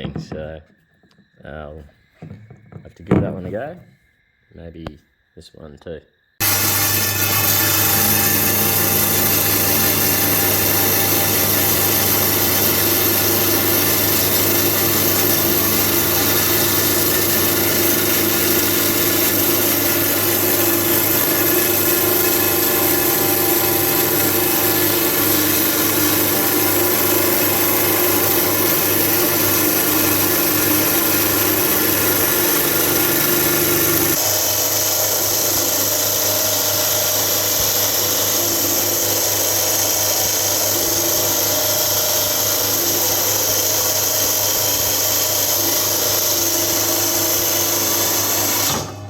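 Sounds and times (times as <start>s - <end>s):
rock saw cutting stone: 6.4s - 49.0s.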